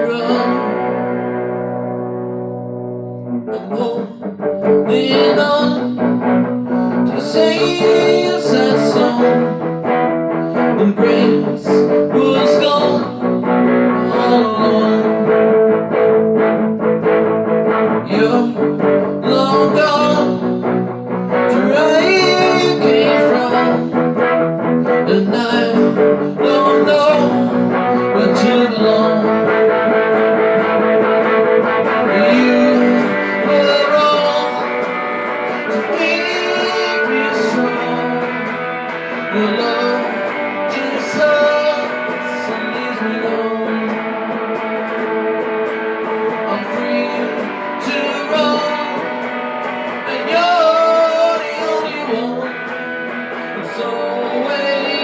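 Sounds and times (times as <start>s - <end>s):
guitar plucked and strummed: 0.0s - 55.0s.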